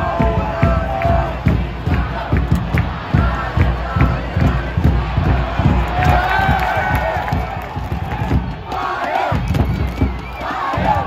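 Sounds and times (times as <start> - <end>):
crowd chanting and cheering: 0.0 - 11.0.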